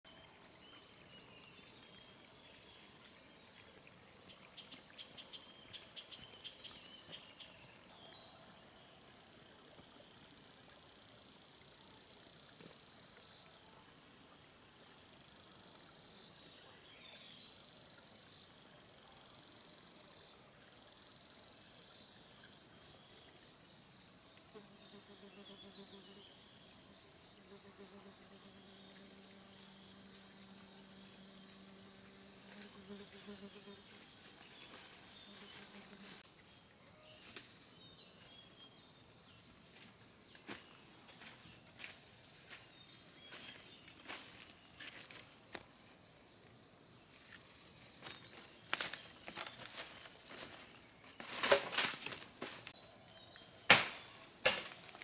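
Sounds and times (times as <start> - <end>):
insects chorus: 0.1 - 55.0.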